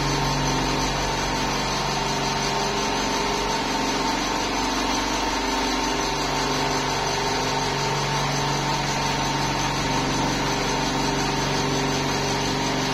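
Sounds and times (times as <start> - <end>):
constant machine tones: 0.0 - 12.9
machine humming: 0.0 - 12.9.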